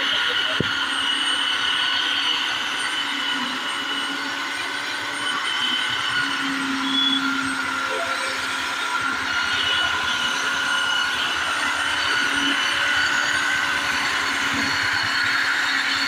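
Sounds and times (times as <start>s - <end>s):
belt sander grinding wood: 0.0s - 16.0s.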